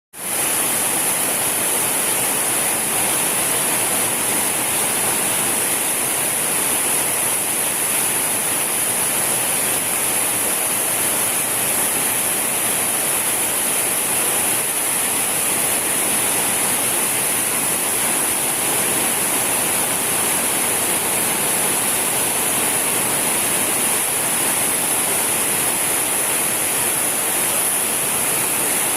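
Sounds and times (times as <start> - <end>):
waterfall rushing: 0.2 - 28.9.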